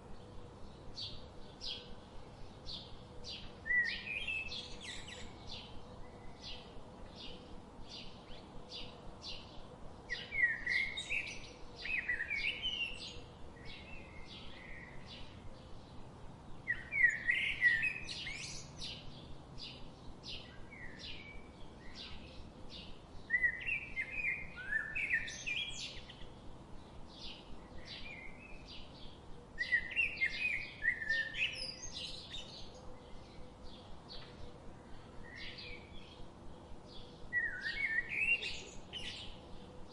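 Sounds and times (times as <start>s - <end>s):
bird chirping: 0.1s - 39.9s.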